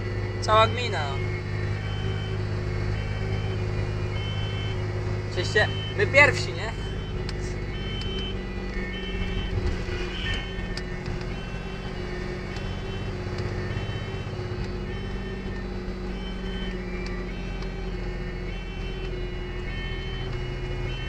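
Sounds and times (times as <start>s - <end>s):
fire engine siren: 0.0s - 21.0s
truck engine droning: 0.0s - 21.0s.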